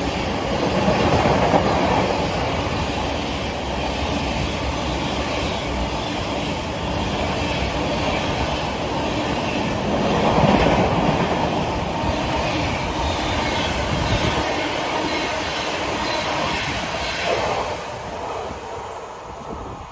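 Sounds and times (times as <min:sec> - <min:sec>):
train passing at speed: 0:00.0 - 0:19.9.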